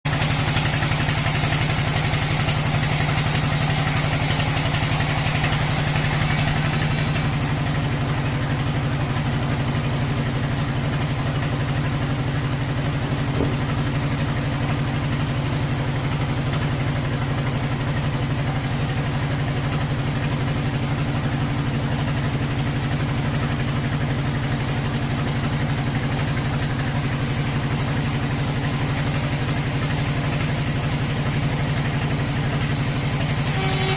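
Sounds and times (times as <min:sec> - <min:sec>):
sawmill machinery droning: 0:00.0 - 0:33.9.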